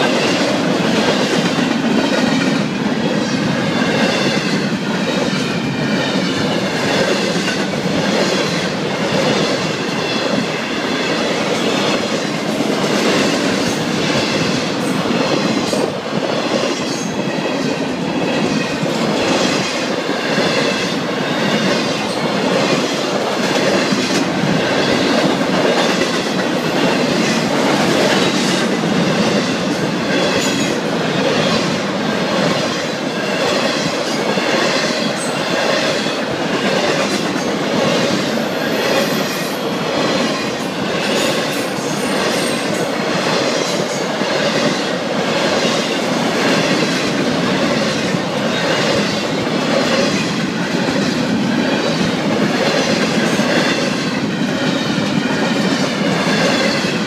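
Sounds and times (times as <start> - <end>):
train wheels rumbling on rail: 0.0 - 57.0
wheels clickety-clack over rail joints: 0.0 - 57.0.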